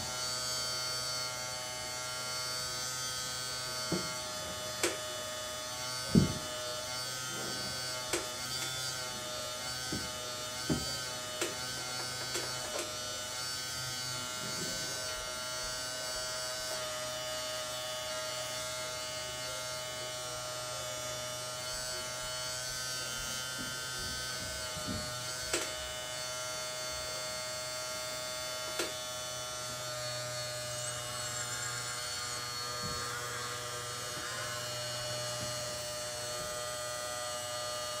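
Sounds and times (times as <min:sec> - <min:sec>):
hydraulic pump whine: 0:00.0 - 0:38.0.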